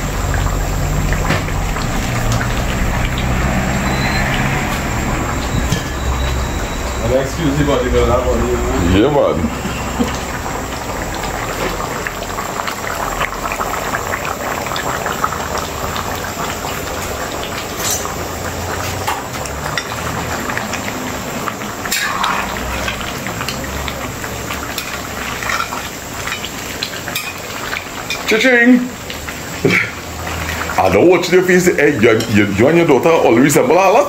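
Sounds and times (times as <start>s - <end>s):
sauce bubbling in a pot: 0.0s - 34.0s.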